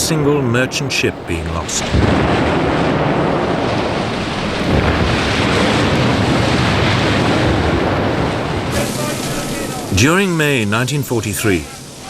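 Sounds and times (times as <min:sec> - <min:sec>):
sea waves: 0:00.0 - 0:12.0
wind: 0:00.0 - 0:12.0.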